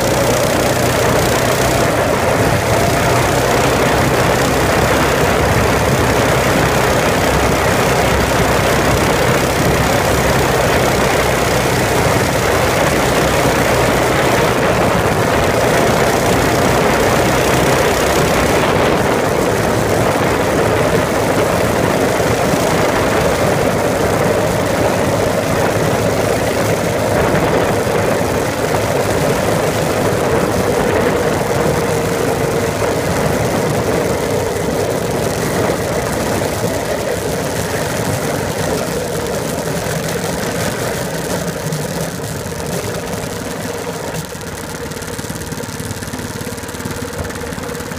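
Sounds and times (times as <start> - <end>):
tyres on slushy snow: 0.0 - 47.9
vehicle engine: 0.0 - 47.9.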